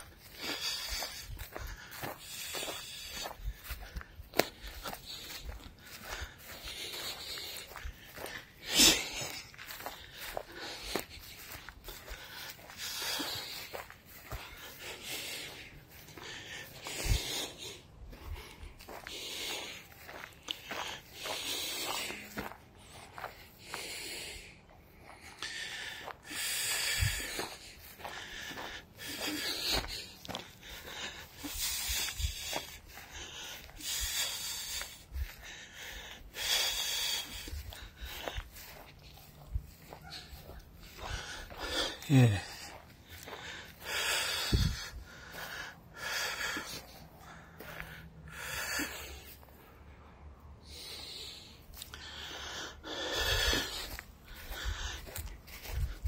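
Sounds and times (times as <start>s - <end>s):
soft footsteps: 0.0s - 49.9s, 50.9s - 56.0s
person breathing heavily: 0.0s - 56.0s.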